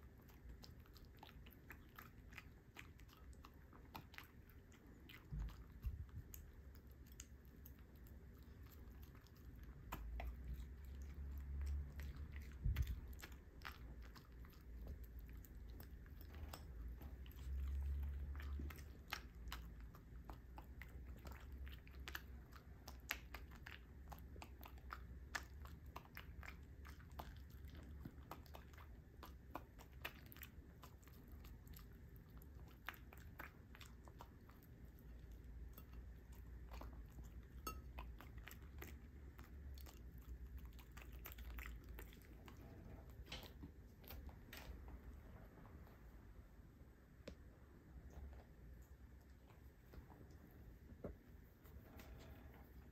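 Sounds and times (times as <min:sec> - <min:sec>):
dog chewing vegetables: 0:00.0 - 0:45.2.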